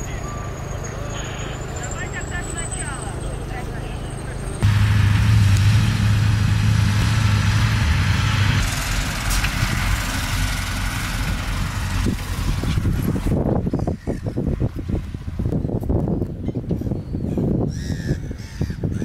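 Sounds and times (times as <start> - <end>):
dump truck diesel engine rumbling: 0.0 - 16.7.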